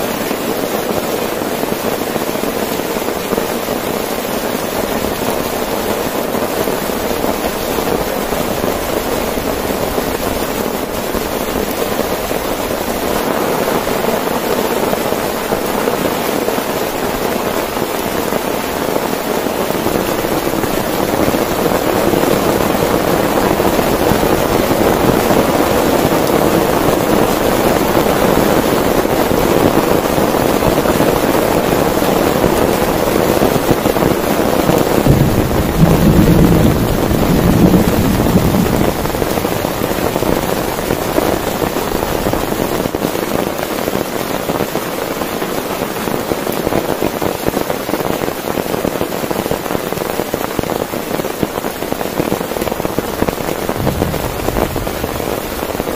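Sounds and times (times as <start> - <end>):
heavy rain on a tent: 0.0 - 55.9.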